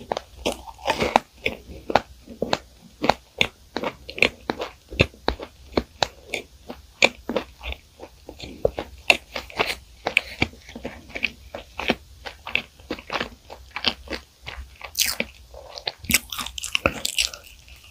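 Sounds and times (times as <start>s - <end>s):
chewing crunchy pastry: 0.0s - 17.9s.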